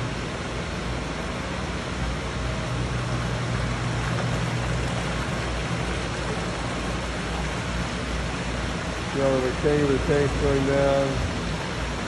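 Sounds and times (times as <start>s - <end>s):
flowing aerated water: 0.0s - 12.0s
low machinery hum: 0.0s - 12.0s.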